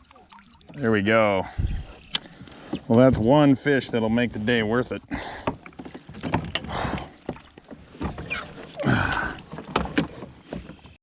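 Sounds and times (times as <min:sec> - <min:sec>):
knocks and clatters in kayak: 0:02.1 - 0:11.0.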